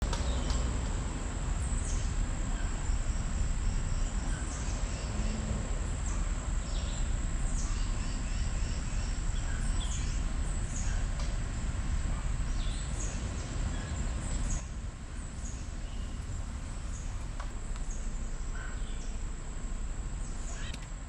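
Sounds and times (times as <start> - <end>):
low steady rumble: 0.0 - 21.0
high insect drone: 0.1 - 21.0.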